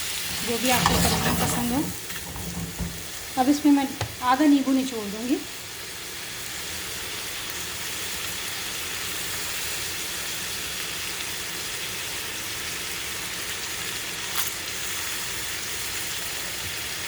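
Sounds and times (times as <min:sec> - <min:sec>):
chicken sizzling in a frying pan: 0:00.0 - 0:17.0.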